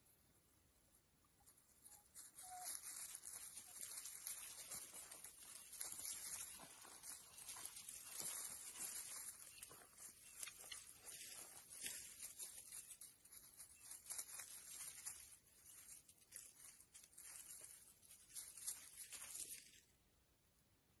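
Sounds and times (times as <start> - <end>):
dry grass rustling and crackling: 1.3 - 20.4.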